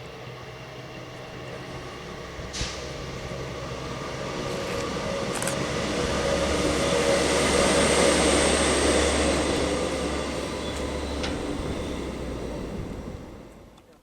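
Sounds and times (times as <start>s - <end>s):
train rumbling past: 0.0s - 13.9s.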